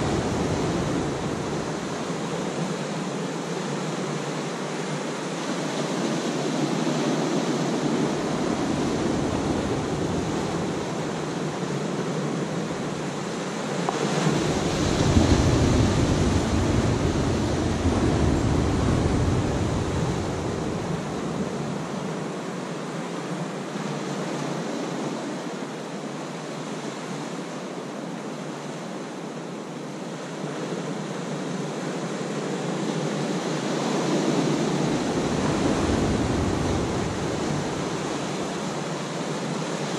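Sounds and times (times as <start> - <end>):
ocean waves breaking on rocks: 0.0 - 22.6, 30.4 - 39.9.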